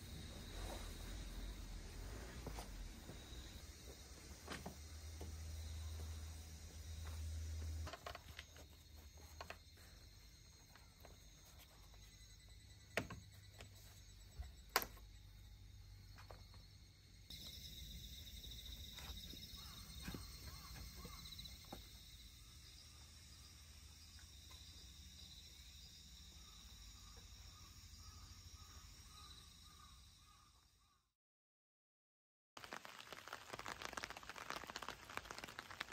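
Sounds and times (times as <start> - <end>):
insects chirring: 0.0 - 30.6, 32.7 - 35.9.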